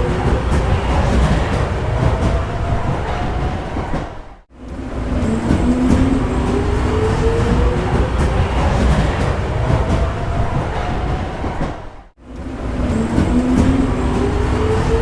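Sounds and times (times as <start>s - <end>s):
rising whine of train: 0.0s - 15.0s
subway train rumble: 0.0s - 15.0s.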